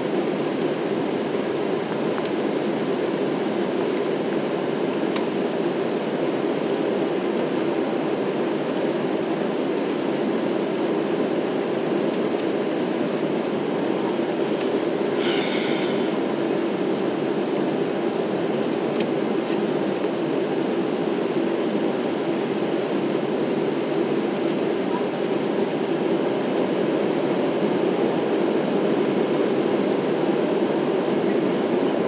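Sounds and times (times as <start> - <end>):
jet engines roaring in cabin: 0.0 - 32.0.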